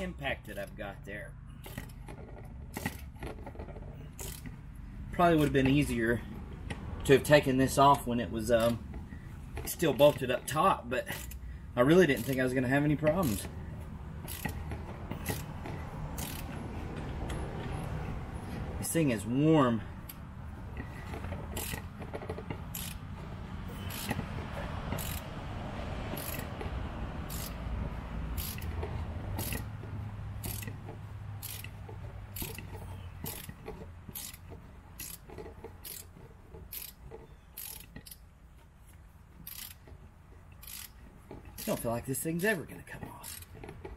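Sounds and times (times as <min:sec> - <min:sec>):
ratchet wrench clicking: 0:01.6 - 0:04.6, 0:05.2 - 0:10.4, 0:11.0 - 0:18.0, 0:20.0 - 0:25.4, 0:26.1 - 0:38.3, 0:39.3 - 0:43.9.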